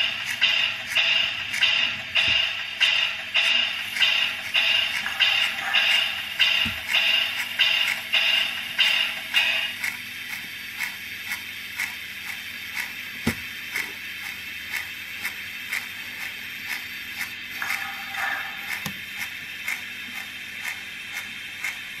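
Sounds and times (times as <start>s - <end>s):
model steam locomotive clicking: 0.0s - 22.0s.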